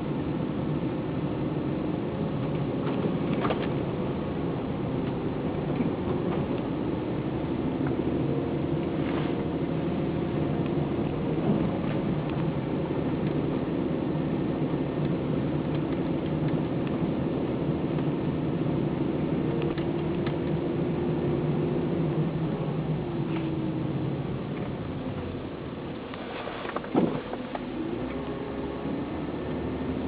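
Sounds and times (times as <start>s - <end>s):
car engine hum: 0.0s - 30.0s
road noise: 0.0s - 30.0s.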